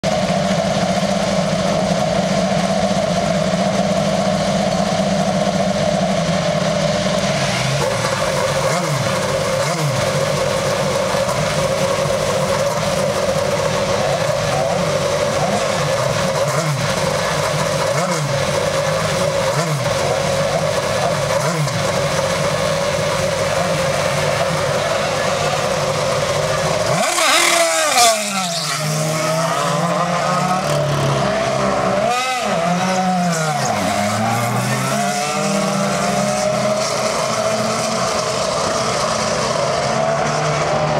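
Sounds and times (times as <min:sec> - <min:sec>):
race car engine idling and revving: 0:00.0 - 0:40.9.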